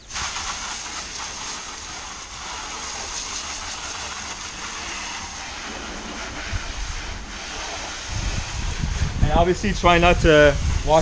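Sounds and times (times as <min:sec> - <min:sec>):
hose spraying water on car: 0:00.0 - 0:11.0.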